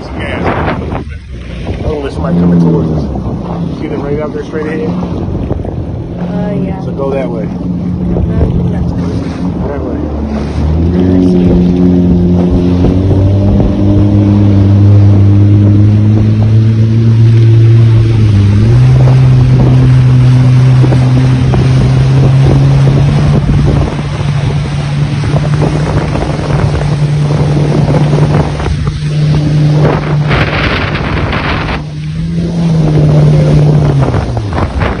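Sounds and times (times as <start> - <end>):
jet ski engine: 0.0 - 35.0
loud rush of noise: 0.0 - 35.0
wind and water noise: 0.0 - 35.0.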